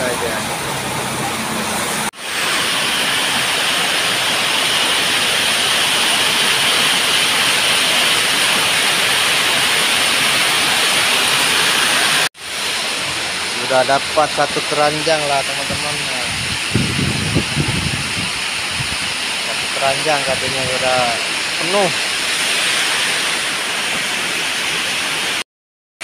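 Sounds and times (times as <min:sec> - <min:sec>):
heavy rain on a metal roof: 0:00.0 - 0:13.8, 0:15.9 - 0:25.4.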